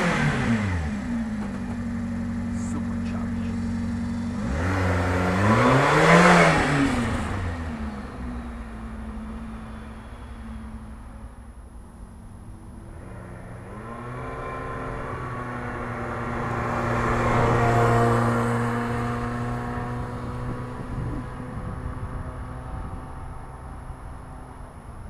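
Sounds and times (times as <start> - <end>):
van engine driving past: 0.0 - 25.0.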